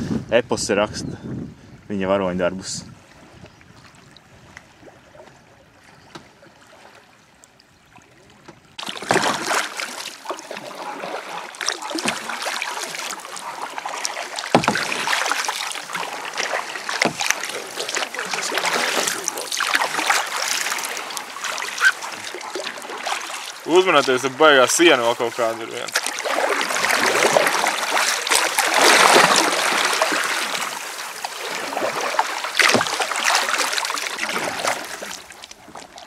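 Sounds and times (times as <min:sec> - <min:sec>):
rushing splashing water: 0:06.5 - 0:36.0.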